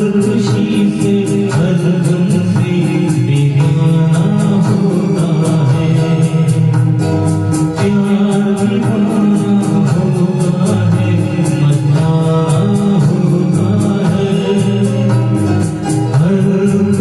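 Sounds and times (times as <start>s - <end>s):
person singing: 0.0s - 17.0s
quick percussion beat: 0.0s - 17.0s
sustained instrumental backing: 0.0s - 17.0s.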